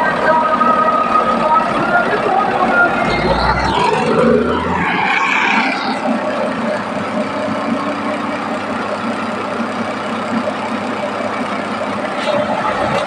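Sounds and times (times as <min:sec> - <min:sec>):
track tamping machine running: 0:00.0 - 0:13.0.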